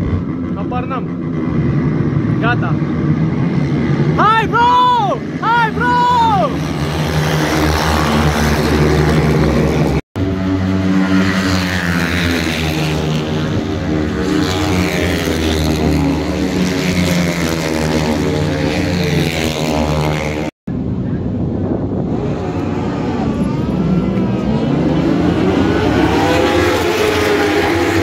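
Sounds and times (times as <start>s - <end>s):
racing motorcycle engines: 0.0s - 28.0s.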